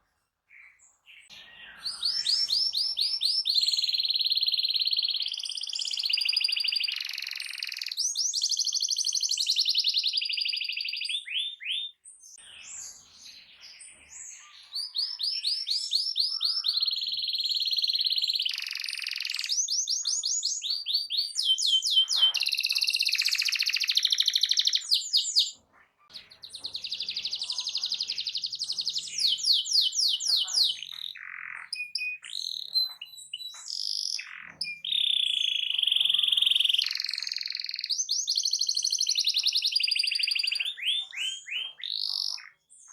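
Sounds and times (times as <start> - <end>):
canary singing trills: 0.5 - 42.9.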